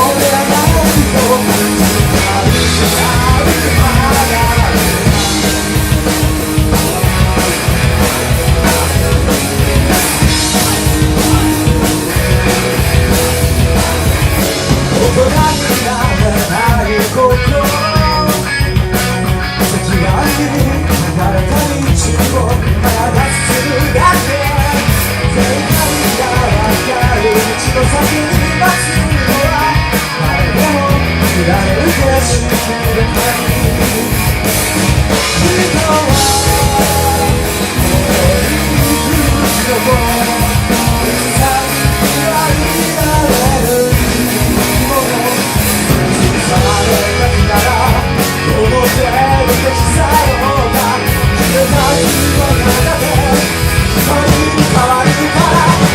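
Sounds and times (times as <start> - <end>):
person singing: 0.0 - 34.5, 35.1 - 55.9
drum kit: 0.0 - 55.9
electric guitar: 0.0 - 55.9
rock band playing: 0.0 - 55.9.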